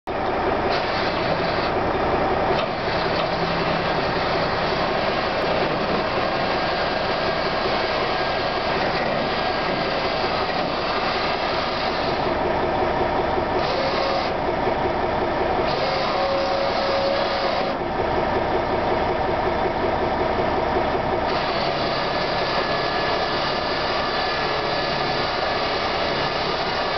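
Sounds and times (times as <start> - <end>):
truck engine running: 0.1 - 26.9
electric drive running: 0.4 - 19.5, 20.7 - 26.9.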